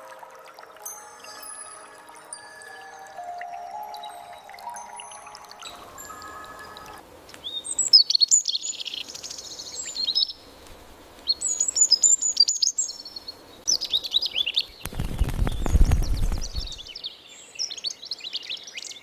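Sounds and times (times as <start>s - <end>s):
songbird twittering: 0.8s - 10.6s, 11.2s - 19.0s.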